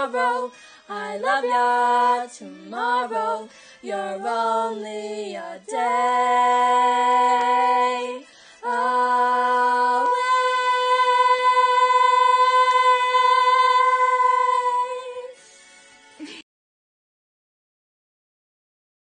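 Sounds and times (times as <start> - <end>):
girls singing unaccompanied: 0.0 - 15.3.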